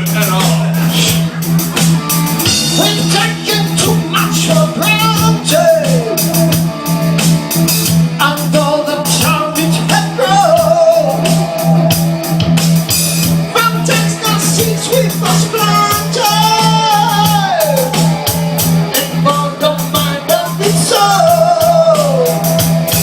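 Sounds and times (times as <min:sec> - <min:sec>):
rock band playing: 0:00.0 - 0:23.0
sung vocals: 0:00.0 - 0:23.0.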